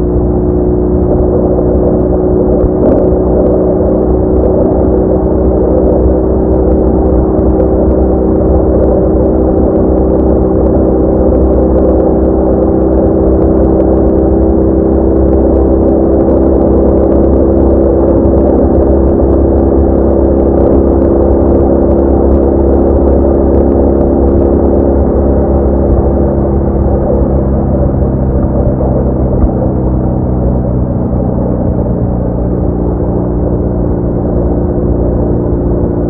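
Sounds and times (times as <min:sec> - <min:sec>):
motorcycle engine drone: 0:00.0 - 0:36.0.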